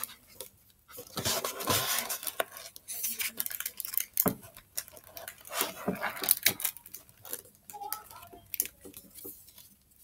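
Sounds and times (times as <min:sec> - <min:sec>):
paper rustle: 0:00.0 - 0:10.0.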